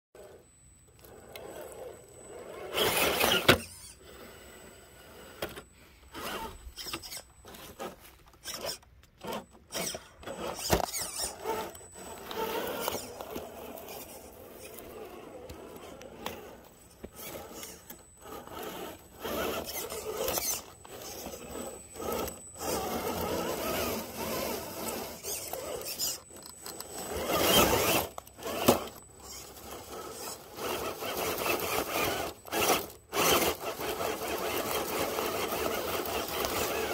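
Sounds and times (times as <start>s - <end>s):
electric motor whining: 0.2s - 36.9s
tyres scraping on stone: 6.2s - 36.9s.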